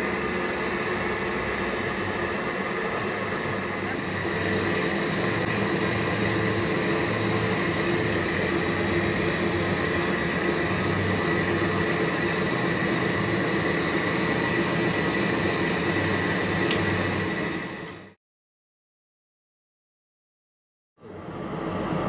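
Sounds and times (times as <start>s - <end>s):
low hum: 0.0s - 18.2s
metal lathe whining: 0.0s - 18.2s.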